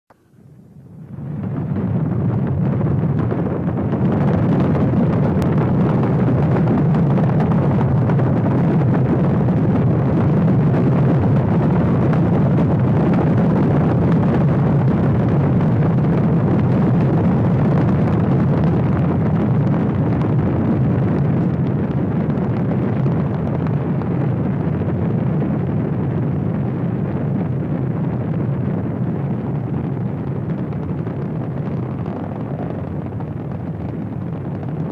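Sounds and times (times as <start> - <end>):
rocket engines rumbling: 0.3 - 34.9.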